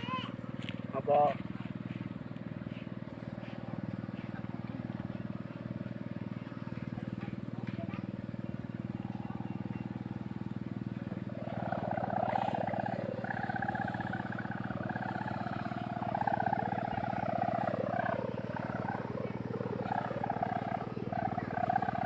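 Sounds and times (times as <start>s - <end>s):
higher wavering hum: 0.0s - 22.0s
low buzzing drone: 0.0s - 22.0s.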